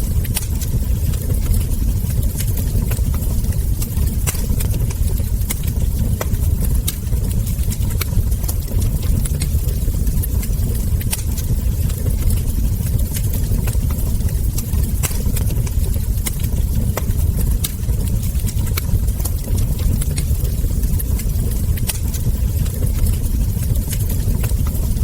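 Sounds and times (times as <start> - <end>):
log fire crackling and popping: 0.0 - 25.0
steady low rumble: 0.0 - 25.0.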